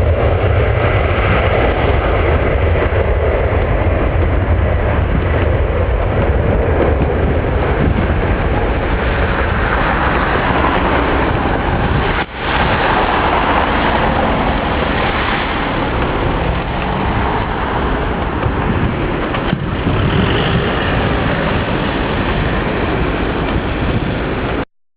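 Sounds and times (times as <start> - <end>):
jet engines roaring on takeoff: 0.0 - 24.7.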